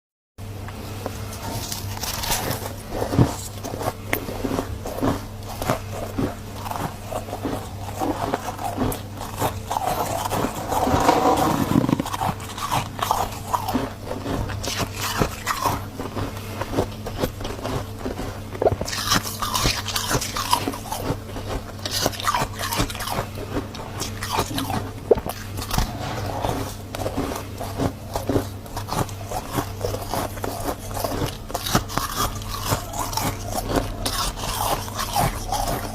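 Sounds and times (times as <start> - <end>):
chewing crunchy frost: 0.7 - 35.9.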